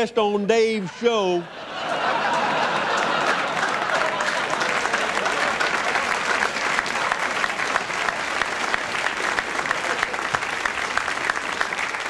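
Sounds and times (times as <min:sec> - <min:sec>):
studio audience applauding: 0:01.8 - 0:12.0.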